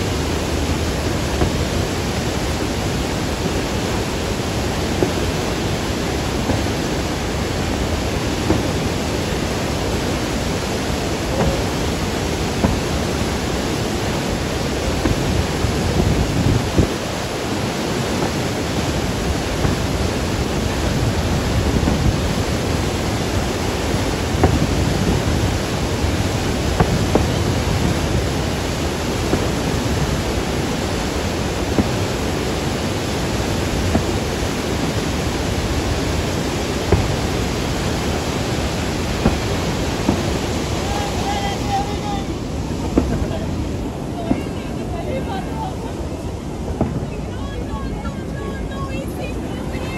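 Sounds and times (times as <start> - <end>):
firework bangs: 0.0 - 48.0
waterfall rushing: 0.0 - 49.9.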